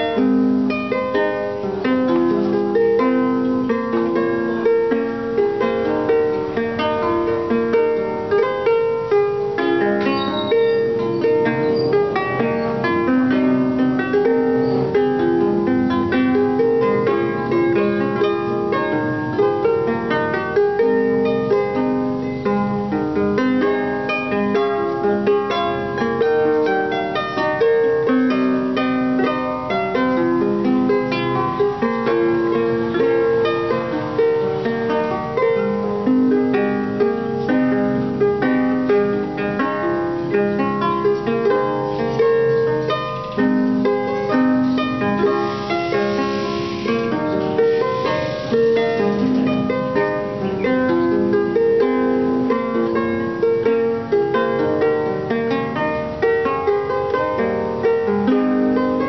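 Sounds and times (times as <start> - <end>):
harp plucked melody: 0.0 - 59.0.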